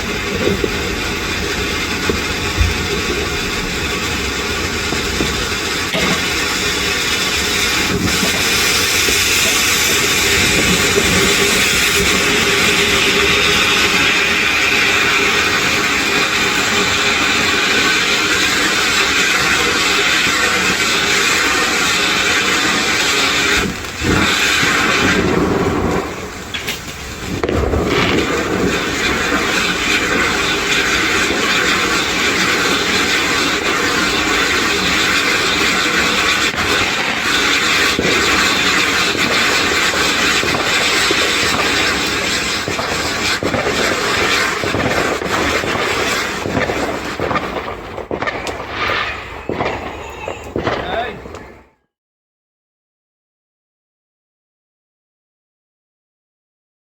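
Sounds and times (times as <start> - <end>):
firework fountains hissing and crackling: 0.0 - 51.8.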